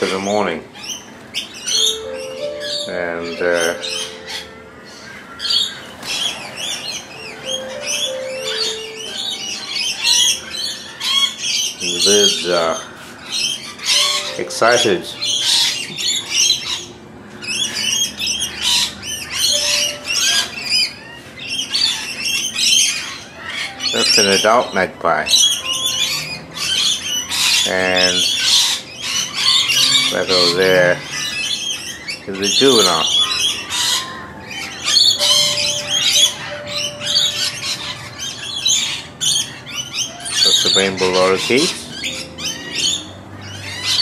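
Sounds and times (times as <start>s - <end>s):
flock of birds squawking and chirping: 0.0s - 44.0s.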